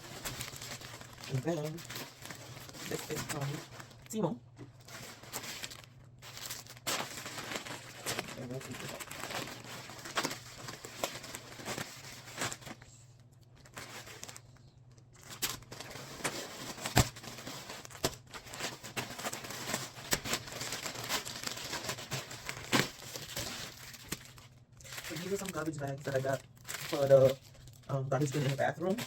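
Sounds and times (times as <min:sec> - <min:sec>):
plastic package tearing and crinkling: 0:00.0 - 0:29.0.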